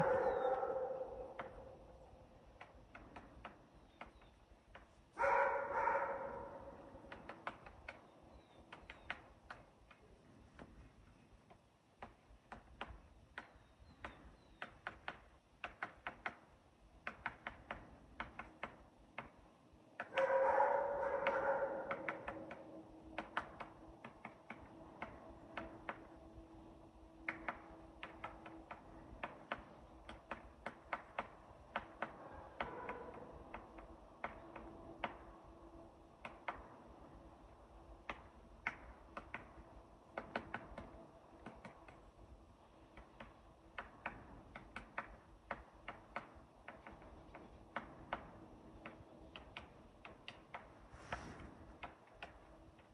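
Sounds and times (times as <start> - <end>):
woodpecker knocking on wood: 0.0 - 52.9.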